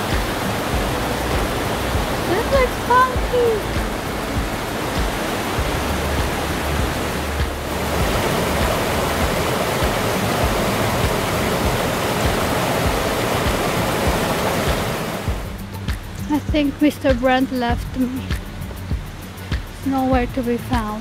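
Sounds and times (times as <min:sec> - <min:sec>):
low rumble: 0:00.0 - 0:20.9
creek rushing and splashing: 0:00.0 - 0:21.0.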